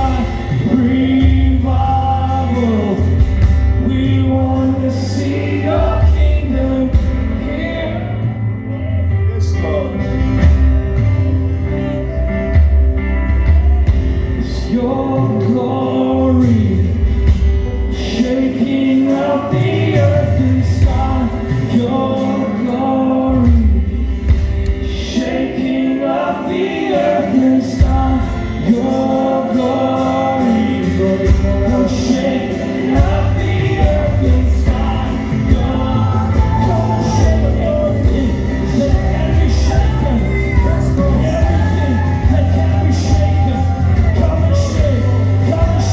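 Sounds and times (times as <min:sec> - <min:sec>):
instrumental accompaniment with bass: 0:00.0 - 0:45.9
voices singing worship song: 0:00.0 - 0:45.9.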